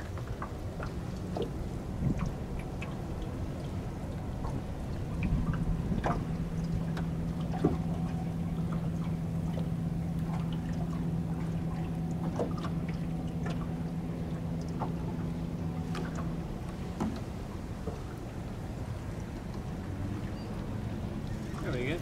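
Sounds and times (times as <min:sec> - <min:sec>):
small boat motor humming: 0:00.0 - 0:22.0
water pouring and trickling: 0:00.0 - 0:22.0.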